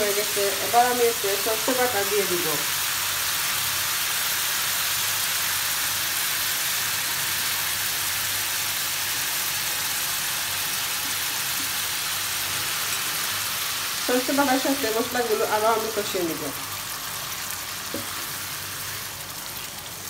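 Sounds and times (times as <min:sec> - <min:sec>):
paste sizzling in hot oil: 0:00.0 - 0:20.0.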